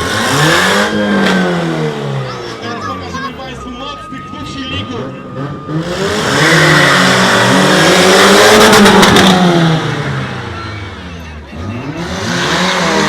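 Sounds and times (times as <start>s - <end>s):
car engines revving hard: 0.0s - 13.0s.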